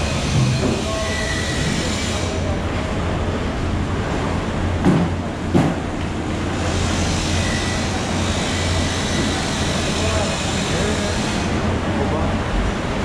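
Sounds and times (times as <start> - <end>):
market background rumble and hiss: 0.0 - 13.0.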